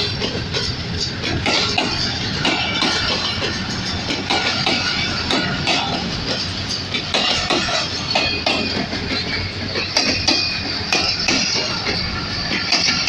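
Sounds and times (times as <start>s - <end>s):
train running noise: 0.0s - 13.0s
wheels clicking over rail joints: 0.0s - 13.0s.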